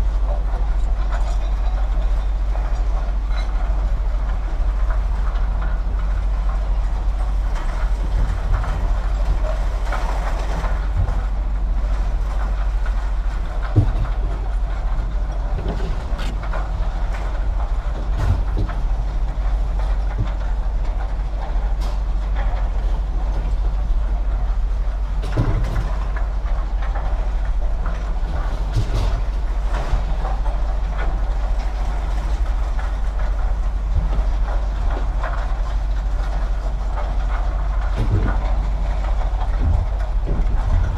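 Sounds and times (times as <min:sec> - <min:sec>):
knocks and rattles: 0:00.4 - 0:24.0, 0:25.2 - 0:40.9.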